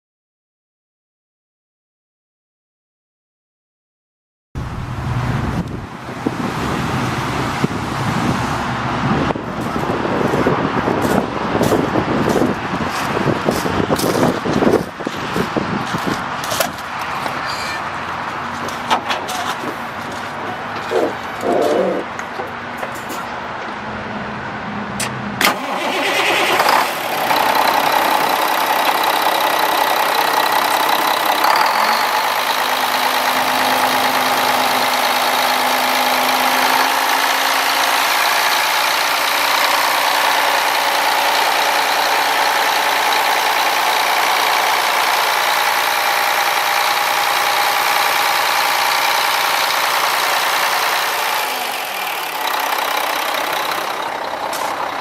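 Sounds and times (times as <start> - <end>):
diesel truck engine idling: 4.6 - 22.6, 25.5 - 55.0.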